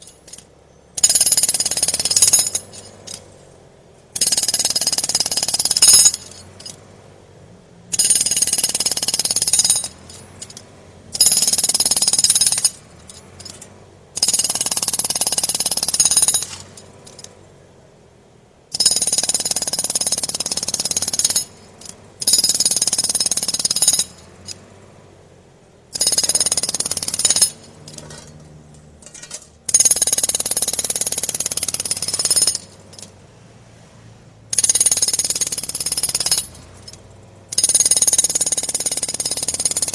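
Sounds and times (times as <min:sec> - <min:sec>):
jackhammer hammering: 0:00.0 - 0:03.3, 0:04.1 - 0:06.8, 0:07.9 - 0:17.3, 0:18.7 - 0:24.6, 0:25.9 - 0:28.4, 0:29.1 - 0:33.1, 0:34.5 - 0:39.9.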